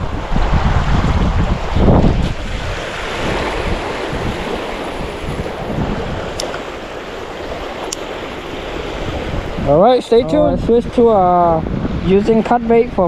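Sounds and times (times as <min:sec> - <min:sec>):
small waves lapping on shore: 0:00.0 - 0:12.1
wind buffeting microphone: 0:00.0 - 0:13.0.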